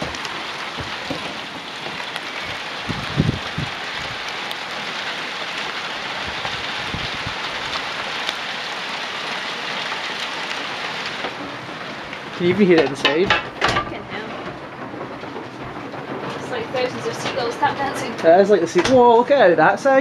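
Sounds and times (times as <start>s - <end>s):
hailstones pattering on ground: 0.0s - 20.0s.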